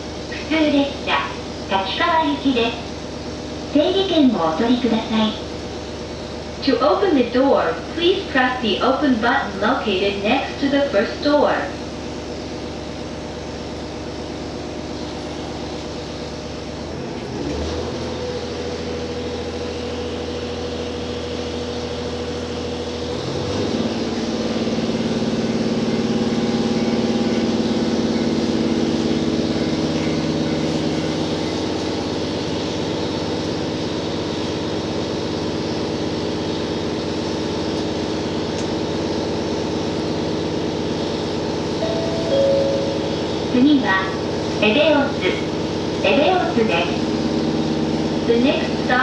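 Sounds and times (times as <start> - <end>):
diesel railcar engine running: 0.0 - 49.0.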